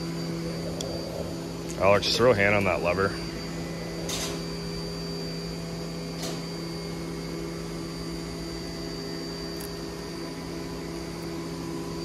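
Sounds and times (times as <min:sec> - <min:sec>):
faint high whine: 0:00.0 - 0:12.0
low machine hum: 0:00.0 - 0:12.0.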